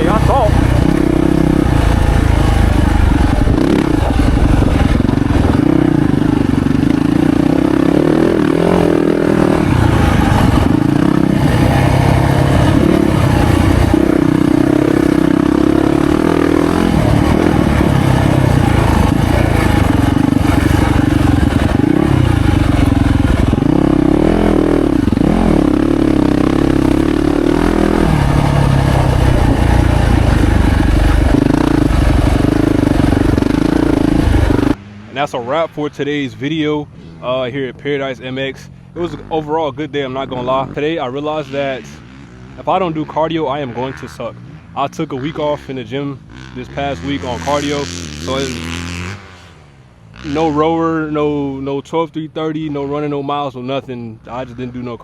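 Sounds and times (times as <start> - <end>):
motorcycle engine revving: 0.0 - 51.8.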